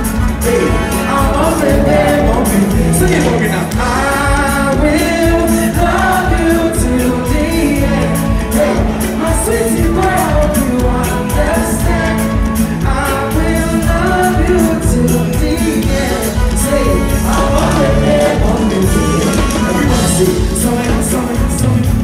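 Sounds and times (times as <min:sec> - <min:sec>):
pop backing track with beat: 0:00.0 - 0:22.0
person singing: 0:00.3 - 0:22.0.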